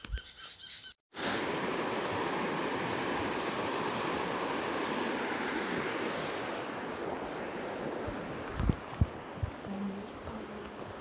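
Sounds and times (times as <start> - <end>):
creek rushing over rocks: 1.2 - 11.0.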